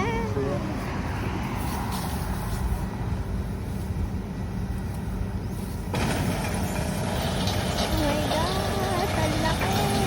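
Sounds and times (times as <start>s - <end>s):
diesel engine low rumble: 0.0s - 10.0s.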